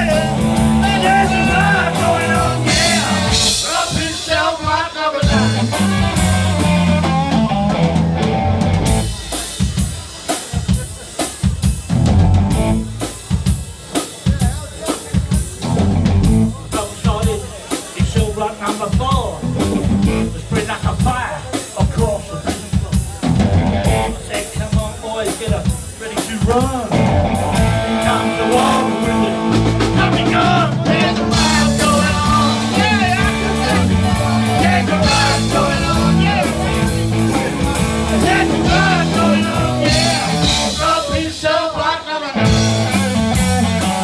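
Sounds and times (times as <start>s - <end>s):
drum kit: 0.0s - 44.0s
live rock band playing: 0.0s - 44.0s.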